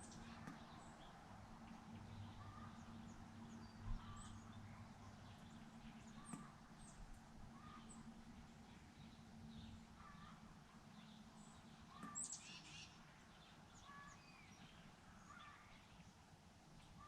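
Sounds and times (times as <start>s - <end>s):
birds chirping faintly: 0.0s - 17.0s
low steady hum: 0.0s - 17.0s.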